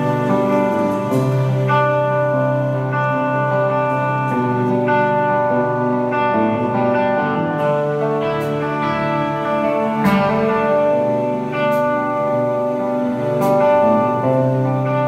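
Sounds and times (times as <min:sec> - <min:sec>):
electric guitar chords ringing: 0:00.0 - 0:15.0.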